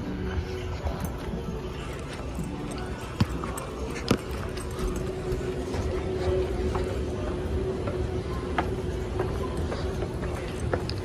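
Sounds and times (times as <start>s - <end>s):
footsteps on stone floor: 0.0s - 11.0s.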